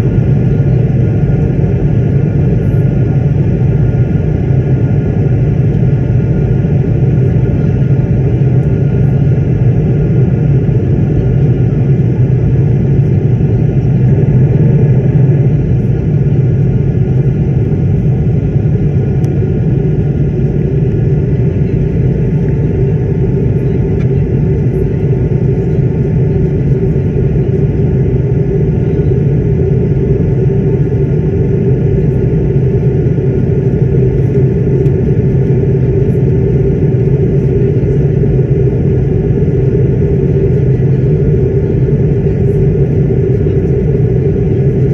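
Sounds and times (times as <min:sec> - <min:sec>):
engine rumble and rushing air: 0:00.0 - 0:44.9
steady cabin hum: 0:00.0 - 0:44.9.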